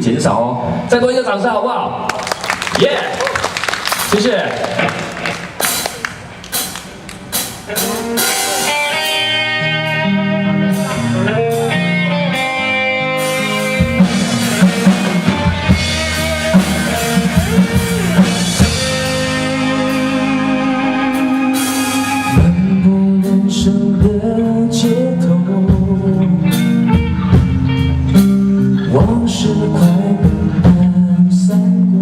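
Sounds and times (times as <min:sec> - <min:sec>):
drum kit: 0:02.2 - 0:10.0, 0:10.6 - 0:31.8
bass guitar: 0:04.1 - 0:32.0
guitar melody: 0:04.8 - 0:30.6.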